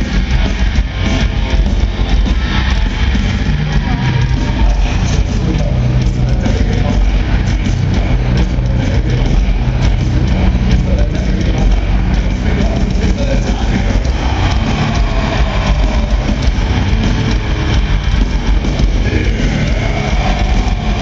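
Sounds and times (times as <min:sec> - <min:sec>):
distorted guitars: 0:00.0 - 0:21.0
pounding drums: 0:00.0 - 0:21.0.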